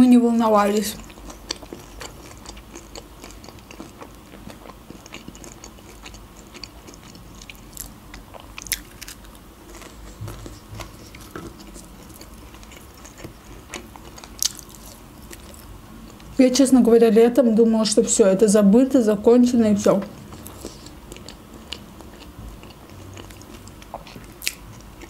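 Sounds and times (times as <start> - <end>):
chewing crispy fried food: 0.6 - 16.4, 20.0 - 25.0.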